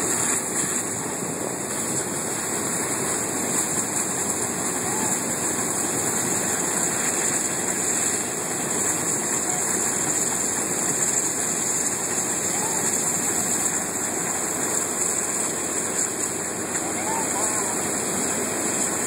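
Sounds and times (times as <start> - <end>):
hose spray hissing: 0.0 - 19.0.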